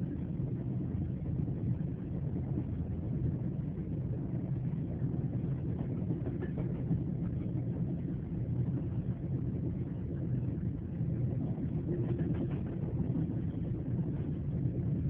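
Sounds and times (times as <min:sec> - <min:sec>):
train running with low rumble: 0:00.0 - 0:15.0.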